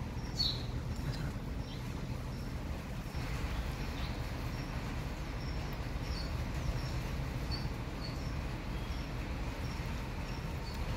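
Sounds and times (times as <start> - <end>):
low background noise: 0.0 - 10.9
small bird chirping: 0.0 - 10.9.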